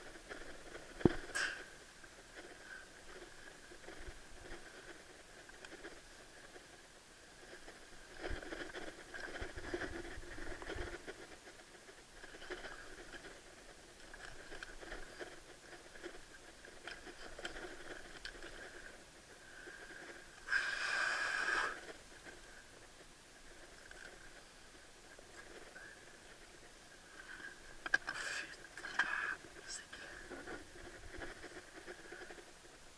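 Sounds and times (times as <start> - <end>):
rough rustle: 0.0 - 32.9.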